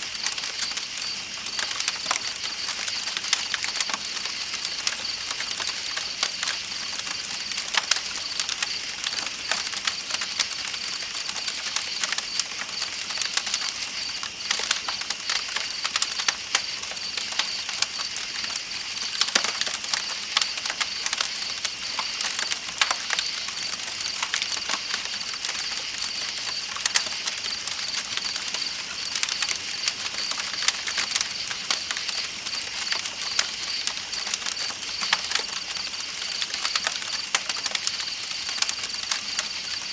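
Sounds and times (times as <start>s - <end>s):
campfire crackling and popping: 0.0s - 39.9s
night insects chirping: 0.0s - 39.9s.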